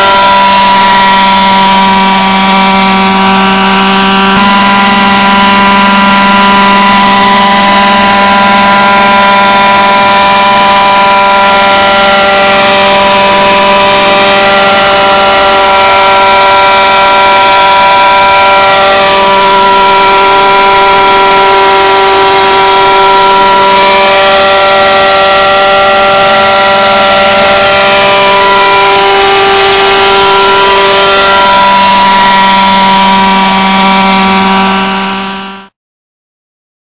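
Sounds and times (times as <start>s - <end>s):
model helicopter engine and rotor: 0.0s - 35.7s.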